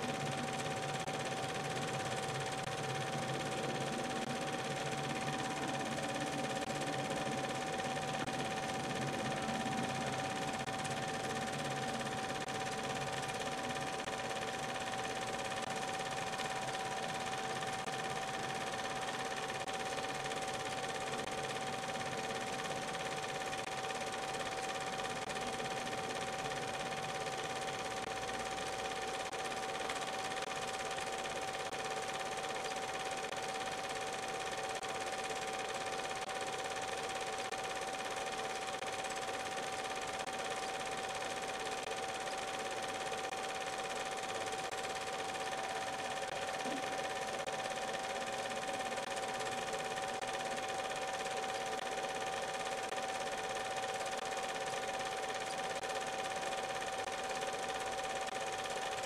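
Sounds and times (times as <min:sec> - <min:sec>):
film projector whirring: 0:00.0 - 0:59.0.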